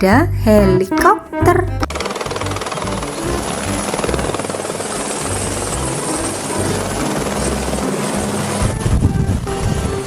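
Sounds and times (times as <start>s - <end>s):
helicopter rotor chop: 1.8s - 10.0s.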